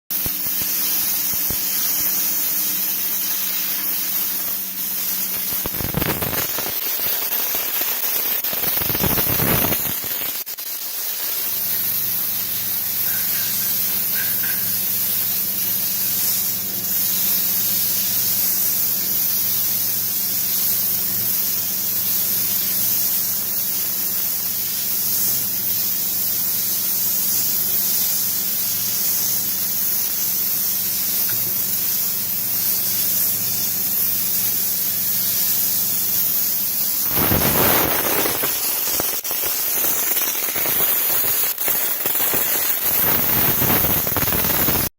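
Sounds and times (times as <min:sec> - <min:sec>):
welding arc hissing and crackling: 0:00.1 - 0:44.9.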